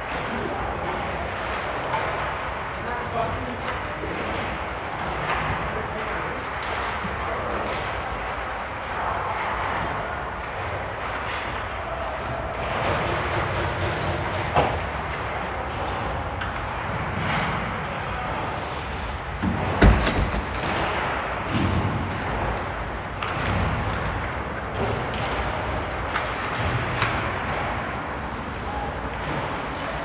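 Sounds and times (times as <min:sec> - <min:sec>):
skates and sticks on ice: 0:00.0 - 0:19.8, 0:20.5 - 0:30.0.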